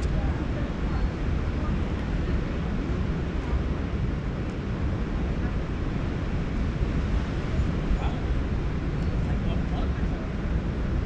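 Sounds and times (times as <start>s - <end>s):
ocean surf washing: 0.0s - 11.0s
wind buffeting microphone: 0.0s - 11.0s.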